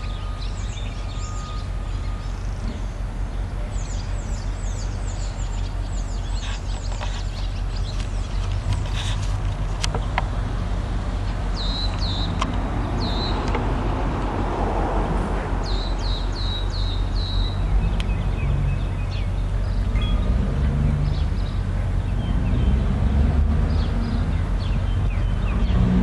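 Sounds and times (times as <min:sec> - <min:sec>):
songbird calling: 0:00.0 - 0:10.2, 0:11.5 - 0:14.1, 0:15.6 - 0:20.4, 0:21.0 - 0:25.9.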